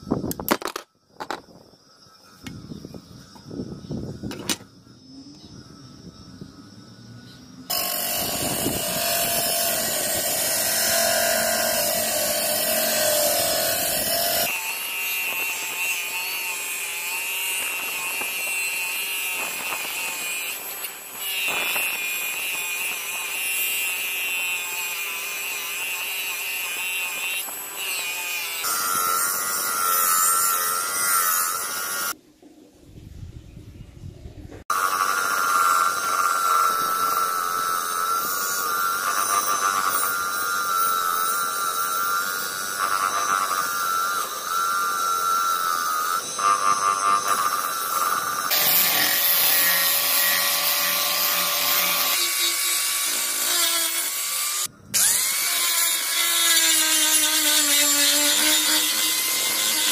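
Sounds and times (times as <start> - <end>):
angle grinder grinding metal: 7.6 - 32.2, 34.7 - 59.9
bench grinder scraping metal: 7.7 - 32.2, 34.7 - 59.9.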